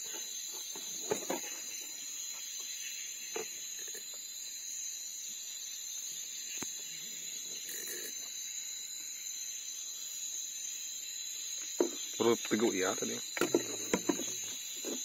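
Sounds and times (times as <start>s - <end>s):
chorus of night insects: 0.0s - 15.0s.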